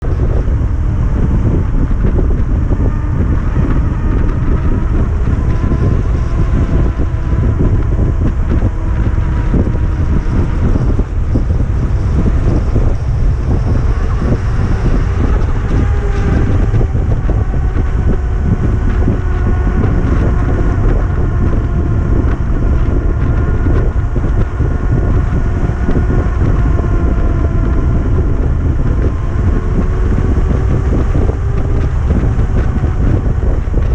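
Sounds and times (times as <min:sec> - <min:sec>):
electric motor whine: 0:00.0 - 0:33.9
wind buffeting microphone: 0:00.0 - 0:33.9.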